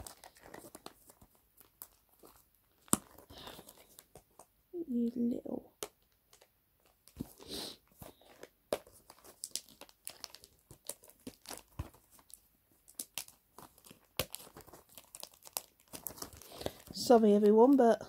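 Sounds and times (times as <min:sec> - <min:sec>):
packaging crinkling and tearing: 0:00.0 - 0:04.5, 0:05.8 - 0:17.1.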